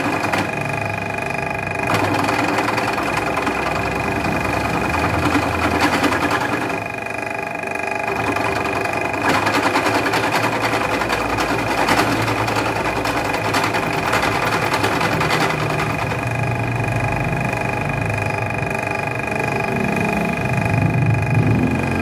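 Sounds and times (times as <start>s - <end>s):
milling machine motor humming: 0.0s - 22.0s.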